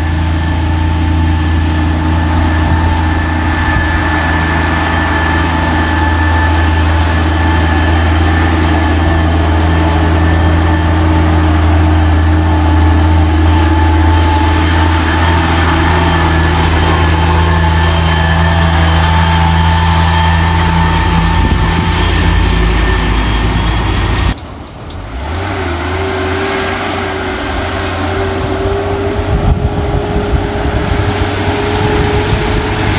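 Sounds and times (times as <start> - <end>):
engine whine: 0.0 - 32.9
truck diesel engine running: 0.0 - 32.9.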